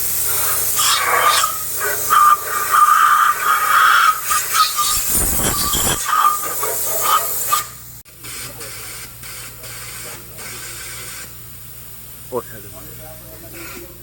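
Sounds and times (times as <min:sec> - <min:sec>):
high-pressure spray hissing: 0:00.0 - 0:12.6.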